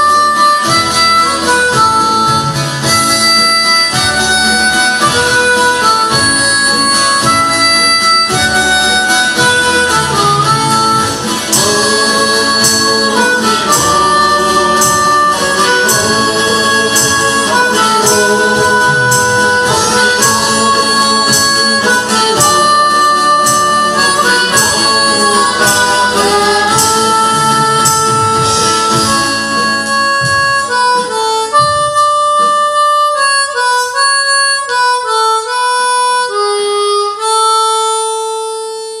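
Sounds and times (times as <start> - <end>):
drums: 0.0 - 34.3
acoustic guitar: 0.0 - 39.0
harmonica: 0.0 - 39.0.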